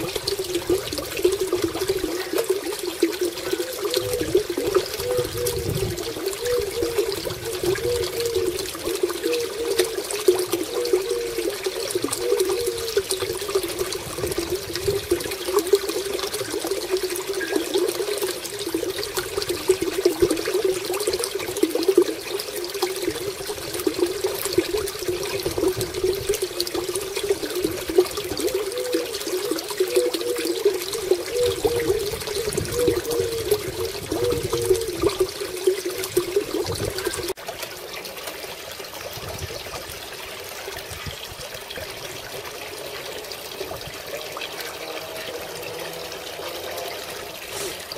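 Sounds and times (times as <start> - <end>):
fountain splashing into water: 0.0 - 47.9.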